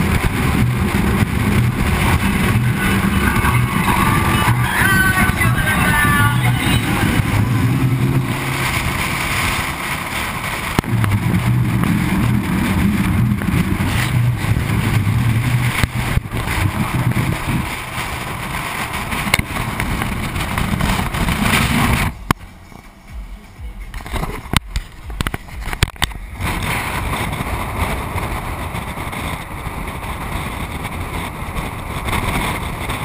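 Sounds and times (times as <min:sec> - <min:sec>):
low engine drone: 0:00.0 - 0:33.0
wind noise: 0:00.0 - 0:33.0.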